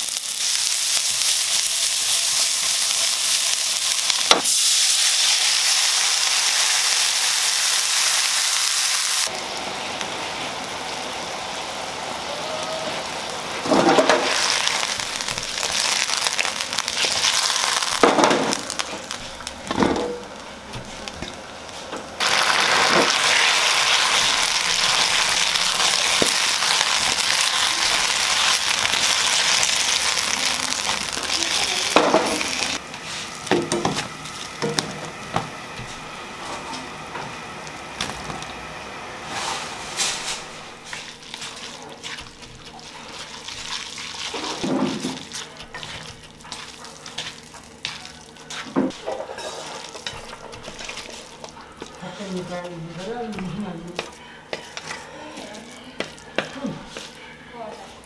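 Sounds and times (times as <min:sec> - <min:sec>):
sausage sizzling in a wok: 0:00.0 - 0:58.0.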